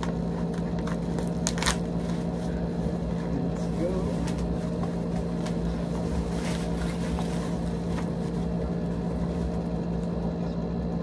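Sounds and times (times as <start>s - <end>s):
bubble-wrap rustling: 0.0s - 10.2s
electric motor hum: 0.0s - 11.0s.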